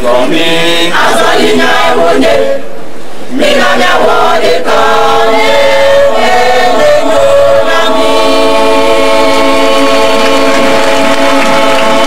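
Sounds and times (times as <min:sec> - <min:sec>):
women's choir singing in harmony: 0:00.0 - 0:02.6, 0:03.3 - 0:12.0.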